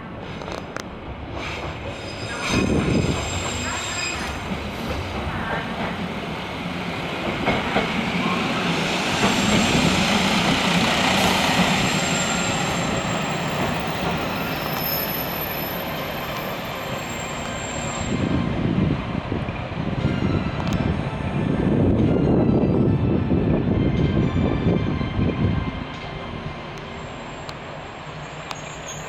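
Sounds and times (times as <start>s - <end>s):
train wheels rumbling and squealing: 0.0s - 29.0s.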